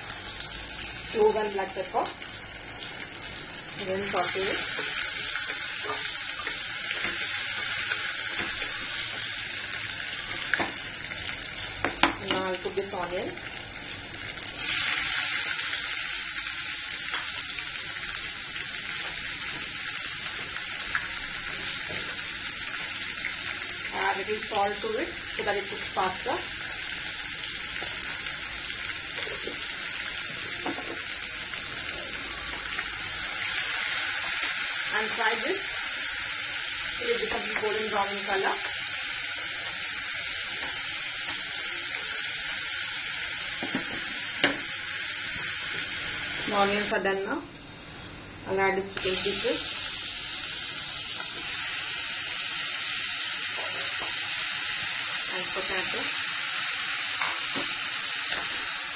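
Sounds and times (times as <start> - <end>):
onions sizzling in oil: 0.0 - 58.9.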